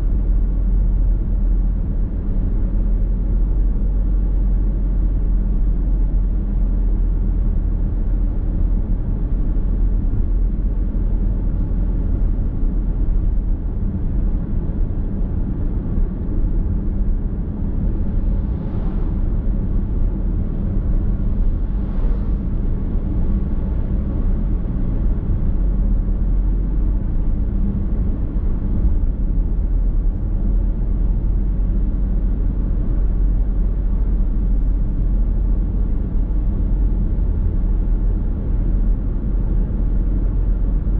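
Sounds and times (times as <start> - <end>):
car road and tyre rumble: 0.0 - 40.9.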